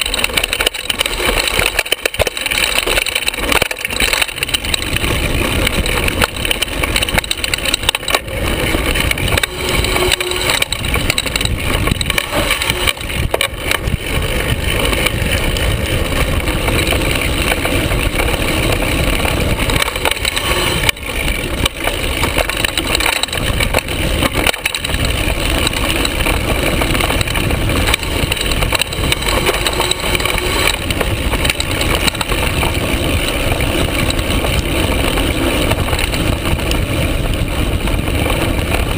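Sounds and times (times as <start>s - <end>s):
bike frame and drivetrain clattering: 0.0s - 38.9s.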